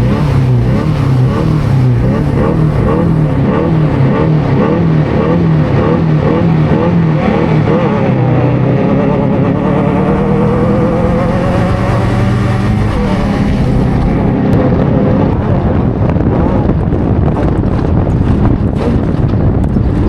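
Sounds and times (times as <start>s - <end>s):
engine revving: 0.0s - 16.7s
low rumble: 0.0s - 20.0s.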